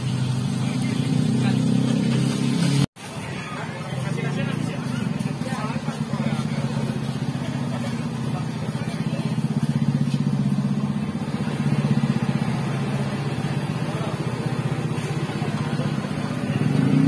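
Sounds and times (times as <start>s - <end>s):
engine idling: 3.2s - 17.0s.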